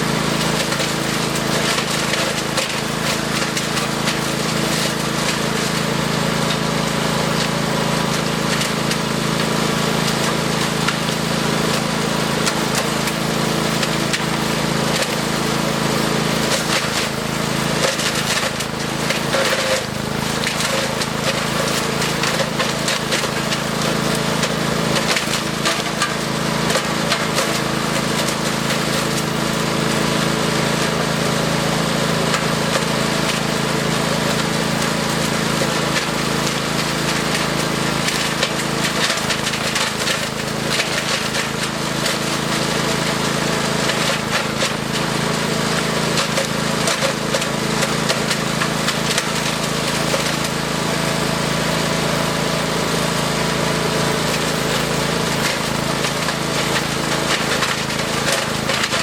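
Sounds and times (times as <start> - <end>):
wood chipper engine running: 0.0 - 59.0.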